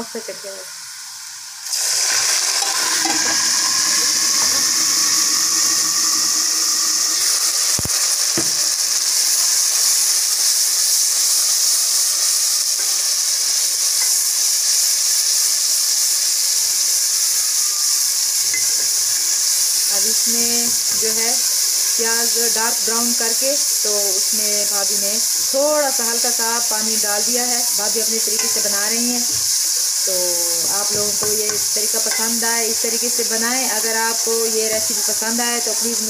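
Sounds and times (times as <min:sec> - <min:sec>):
water sizzling in hot oil: 0:00.0 - 0:36.0.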